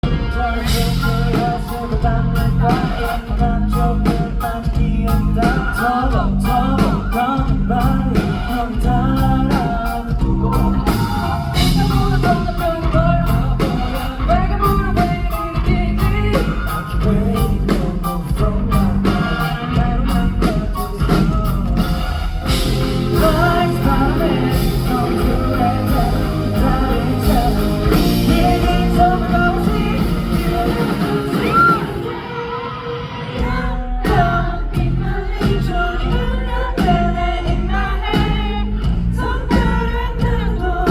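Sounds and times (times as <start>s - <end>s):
live rock band playing: 0.0s - 40.9s
person singing lead vocal: 0.0s - 40.9s.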